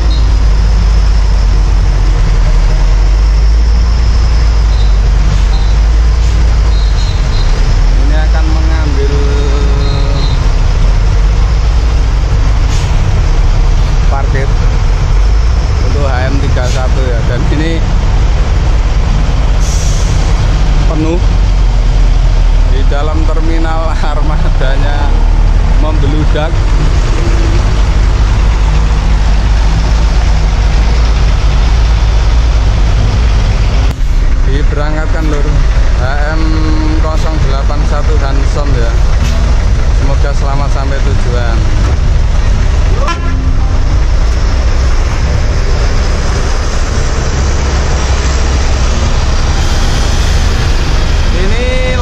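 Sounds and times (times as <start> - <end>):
diesel coach engine running: 0.0 - 52.0.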